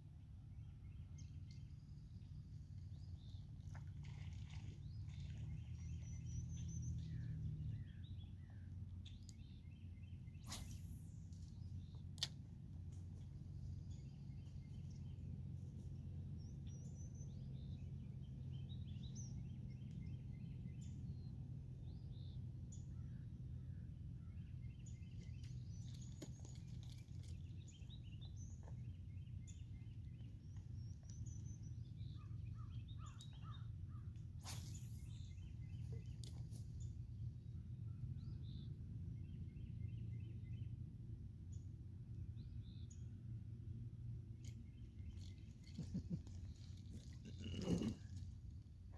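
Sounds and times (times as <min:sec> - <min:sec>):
low background rumble: 0:00.0 - 0:48.9
small birds chirping: 0:00.4 - 0:12.4, 0:13.2 - 0:40.7, 0:44.3 - 0:48.7.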